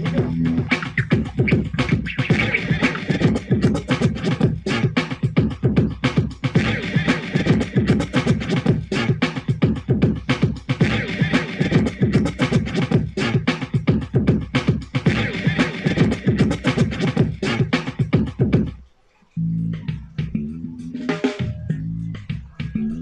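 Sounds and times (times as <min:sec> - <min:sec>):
percussive beat-driven music: 0:00.0 - 0:18.8, 0:19.7 - 0:23.0.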